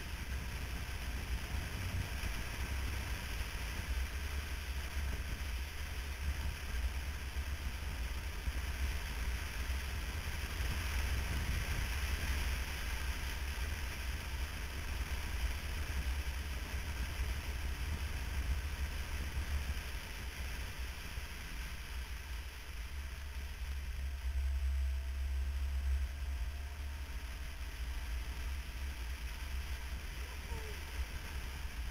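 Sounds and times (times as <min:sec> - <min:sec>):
low wind rumble on microphone: 0:00.0 - 0:31.9
motorcycle wind and road rush: 0:00.0 - 0:31.9.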